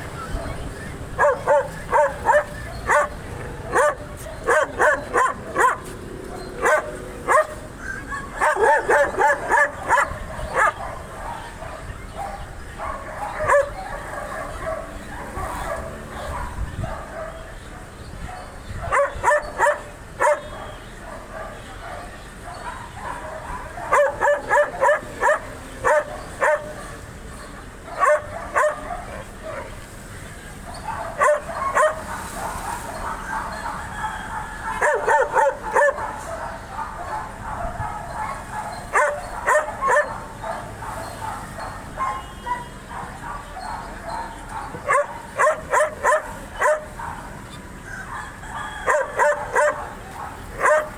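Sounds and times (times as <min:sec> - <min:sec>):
dog yelping: 0:00.1 - 0:17.3, 0:18.3 - 0:20.7, 0:22.5 - 0:26.8, 0:27.9 - 0:29.7, 0:30.7 - 0:47.3, 0:47.9 - 0:50.9
dog barking loudly: 0:00.1 - 0:29.9, 0:30.5 - 0:50.9.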